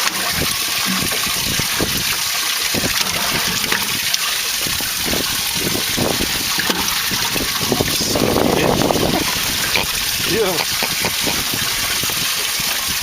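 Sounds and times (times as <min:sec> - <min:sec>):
rushing water hiss: 0:00.0 - 0:13.0.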